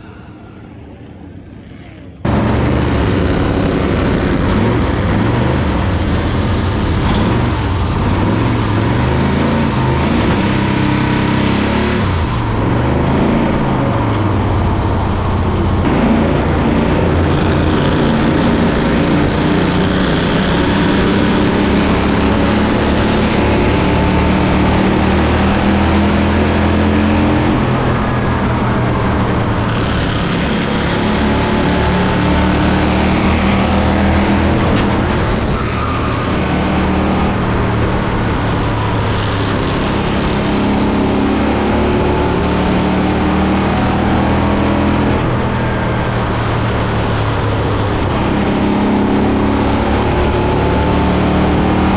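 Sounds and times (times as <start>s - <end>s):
race car engines accelerating: 0.0s - 51.9s.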